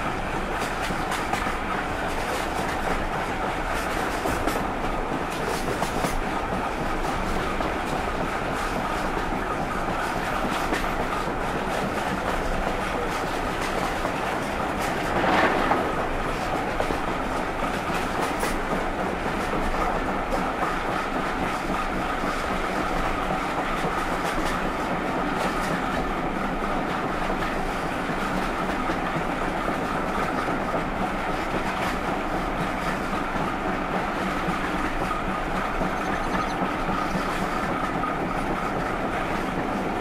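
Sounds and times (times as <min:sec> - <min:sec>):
railway coach rolling rumble: 0:00.0 - 0:40.0.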